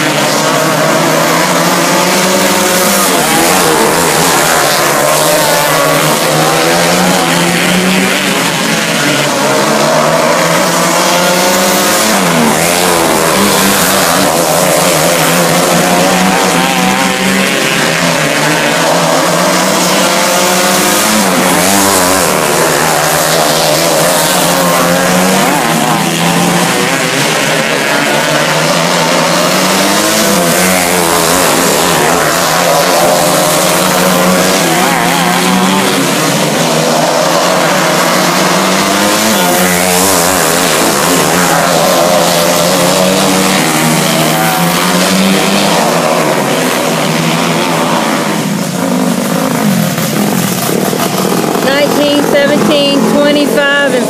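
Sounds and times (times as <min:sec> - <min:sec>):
racing kart engines passing: 0:00.0 - 0:54.0.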